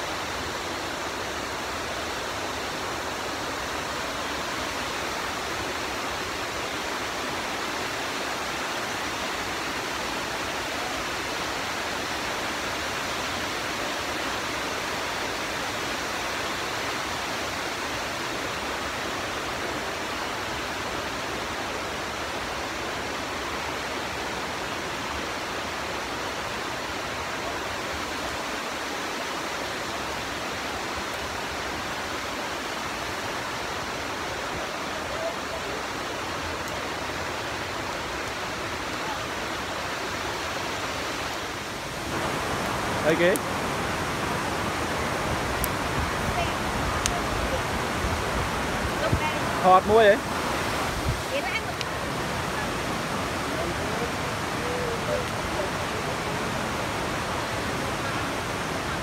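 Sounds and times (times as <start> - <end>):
waterfall rushing onto rocks: 0.0 - 59.0.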